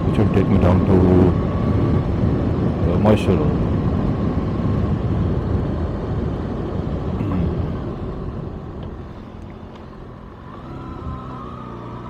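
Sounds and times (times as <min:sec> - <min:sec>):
wind rush: 0:00.0 - 0:11.2
motorcycle engine: 0:00.0 - 0:12.0.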